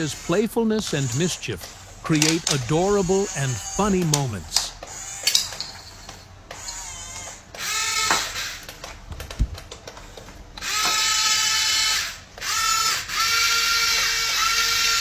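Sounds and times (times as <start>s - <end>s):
toy electric motor whining: 0.0s - 15.0s.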